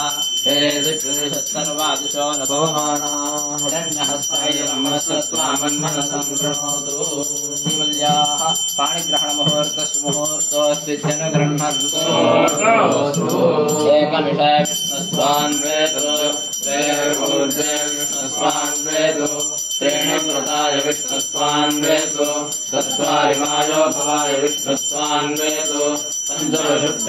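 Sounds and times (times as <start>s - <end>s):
bell ringing: 0.0s - 27.0s
people chanting: 0.0s - 27.0s.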